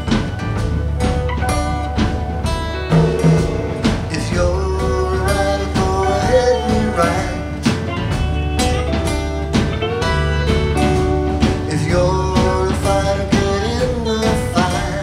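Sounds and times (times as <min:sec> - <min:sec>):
electric guitar: 0:00.0 - 0:15.0
small band playing live: 0:00.0 - 0:15.0
steady beat: 0:00.0 - 0:15.0
strummed acoustic guitar: 0:00.0 - 0:15.0.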